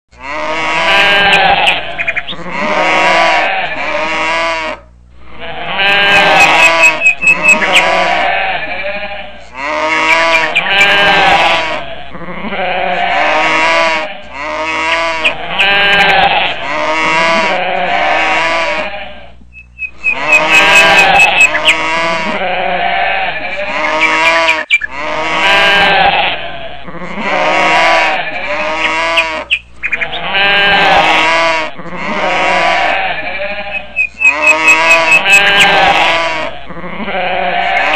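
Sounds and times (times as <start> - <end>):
sheep and goats bleating: 0.1 - 37.9.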